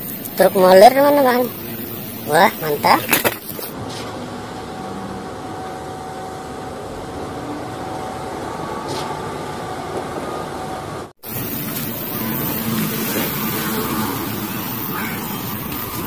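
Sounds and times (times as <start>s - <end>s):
diesel truck engines rumbling: 0.0s - 16.0s.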